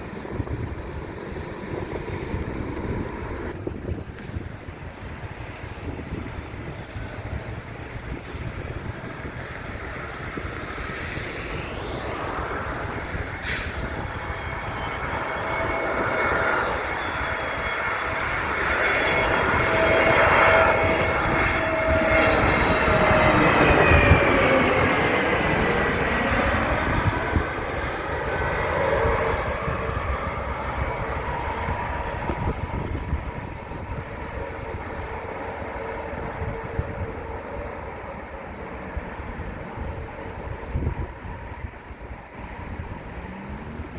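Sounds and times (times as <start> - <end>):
airliner engines passing: 0.0 - 43.9.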